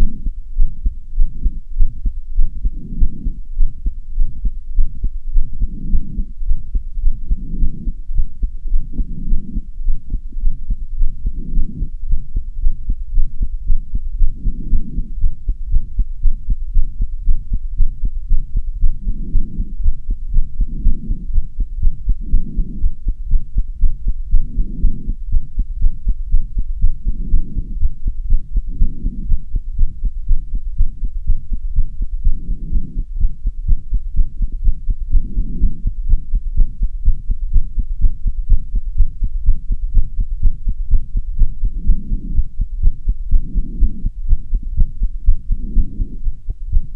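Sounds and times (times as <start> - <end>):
fast heartbeat: 0.0 - 46.9
soft low swells: 0.0 - 46.9.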